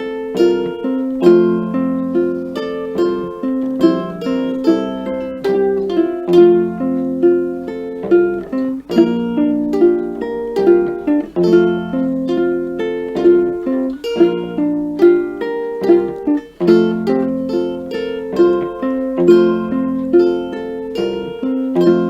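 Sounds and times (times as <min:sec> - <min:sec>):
plucked string instrument playing: 0:00.0 - 0:22.0.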